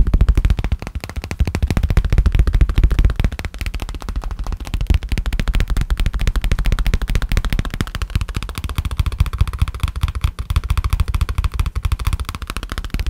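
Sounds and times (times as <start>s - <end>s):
rapid fingertip tapping on a case: 0.0s - 13.0s.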